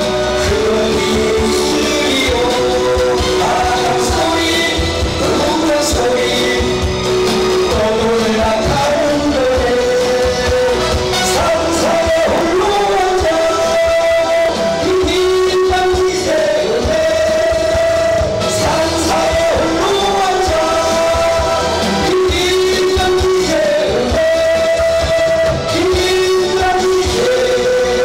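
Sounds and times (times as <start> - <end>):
band with drums: 0.0 - 28.0
song with sliding melody: 0.0 - 28.0.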